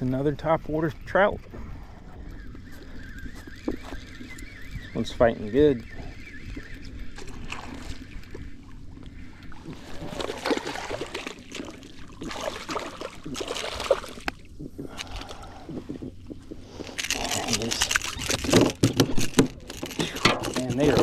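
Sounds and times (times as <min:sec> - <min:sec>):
water splashing and sloshing: 0:01.5 - 0:21.0.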